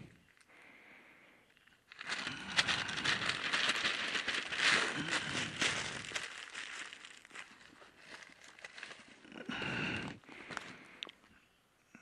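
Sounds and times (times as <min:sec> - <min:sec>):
dry twigs and leaves crackling: 0:01.5 - 0:11.2.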